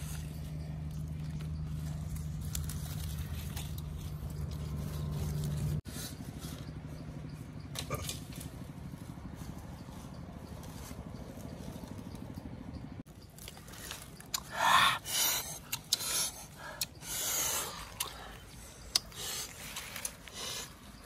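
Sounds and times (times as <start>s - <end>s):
leaves and skewers rustling: 0.0s - 21.0s
steady low hum: 0.0s - 21.0s.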